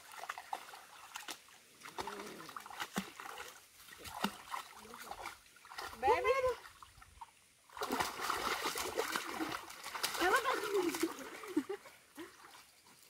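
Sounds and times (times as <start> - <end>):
splashes in shallow water: 0.0 - 13.0.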